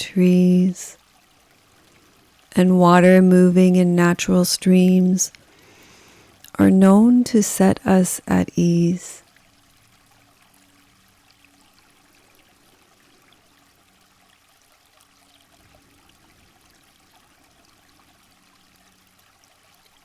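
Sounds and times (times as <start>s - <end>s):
faint running stream: 0.0s - 20.0s.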